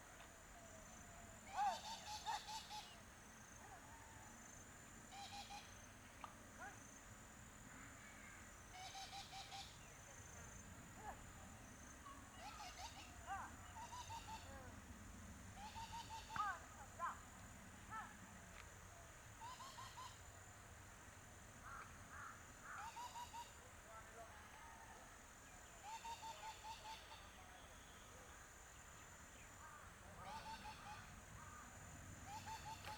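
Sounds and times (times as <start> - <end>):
faint bird calls: 0.0 - 4.4, 5.1 - 6.8, 7.6 - 14.9, 15.5 - 20.4, 21.6 - 32.9.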